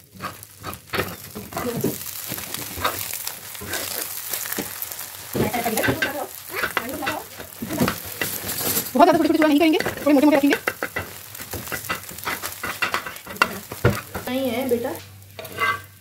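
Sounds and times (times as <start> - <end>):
omelette sizzling in a pan: 0.0 - 16.0
metal spatula scraping a pan: 0.1 - 4.7, 5.4 - 14.3, 15.4 - 16.0.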